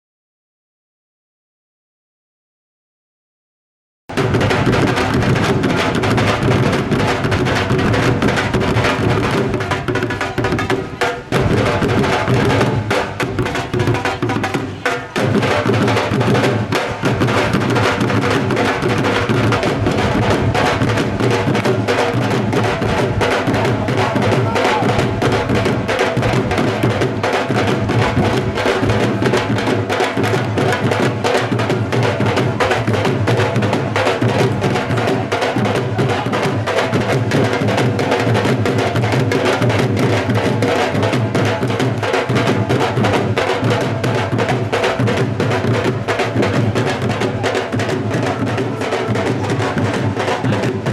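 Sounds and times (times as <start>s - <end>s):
deep booming bass drum: 4.1s - 50.9s
dhol drumming: 4.1s - 50.9s.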